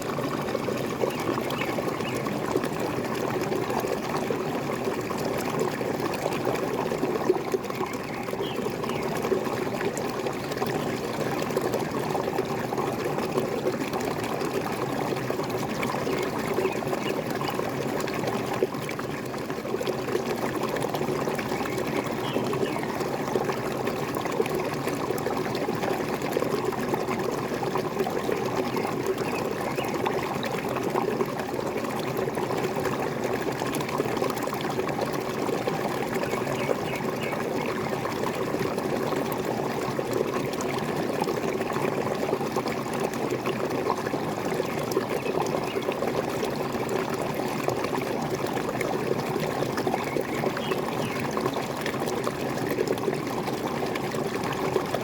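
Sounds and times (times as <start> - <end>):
waterfall pouring: 0.0 - 55.0.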